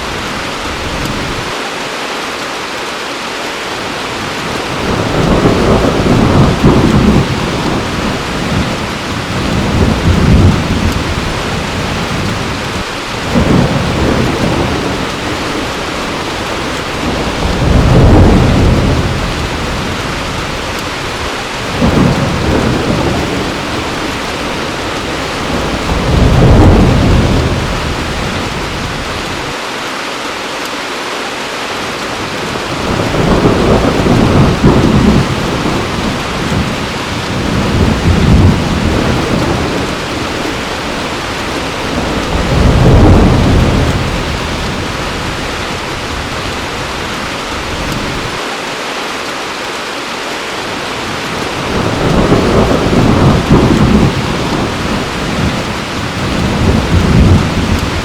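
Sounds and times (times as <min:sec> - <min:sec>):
heavy rain falling: 0:00.0 - 0:58.0
low rolling thunder: 0:04.2 - 0:29.6, 0:32.2 - 0:48.4, 0:50.9 - 0:58.0.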